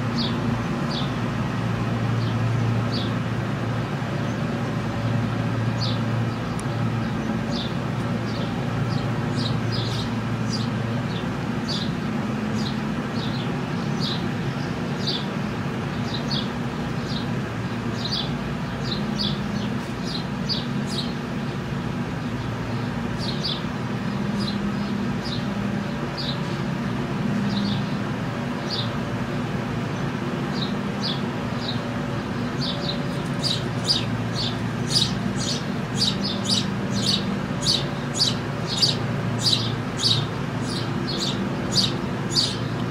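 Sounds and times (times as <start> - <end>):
small birds chirping: 0.0 - 1.2, 2.1 - 3.2, 5.7 - 26.7, 27.4 - 29.1, 30.0 - 42.9.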